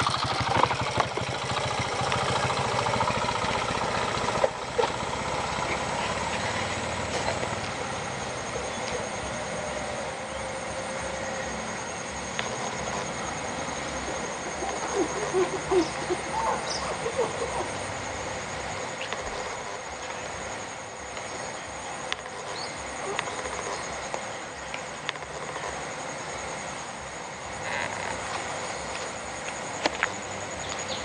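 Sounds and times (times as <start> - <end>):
insect drone: 0.0 - 31.0
short gliding animal calls: 1.7 - 26.7.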